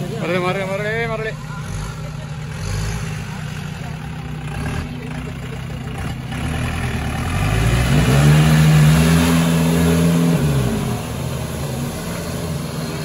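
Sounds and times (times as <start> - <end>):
jeep engine revving: 0.0 - 13.0.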